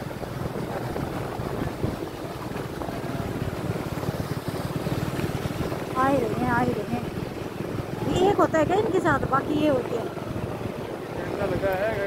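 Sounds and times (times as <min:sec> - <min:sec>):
fast river rushing: 0:00.0 - 0:12.0
wind buffeting microphone: 0:00.0 - 0:12.0.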